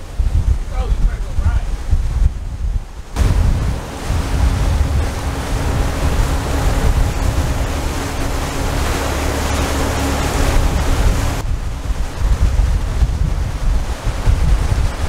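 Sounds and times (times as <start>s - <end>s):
water splashing along a hull: 0.0s - 15.0s
wind buffeting the microphone: 0.0s - 15.0s
steady low rumble: 1.9s - 14.7s.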